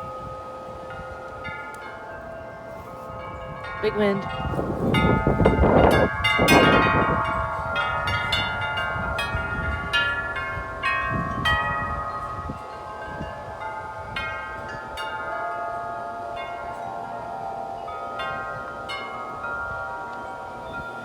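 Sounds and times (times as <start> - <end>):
low wind rumble: 0.0 - 21.0
wind chimes ringing: 0.0 - 21.0.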